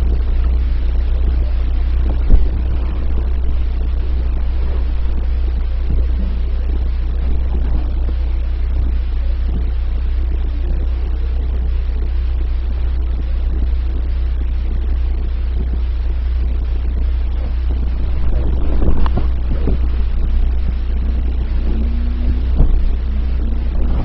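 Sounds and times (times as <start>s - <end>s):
car engine and road rumble: 0.0s - 24.0s
tyre and wind hiss: 0.0s - 24.0s.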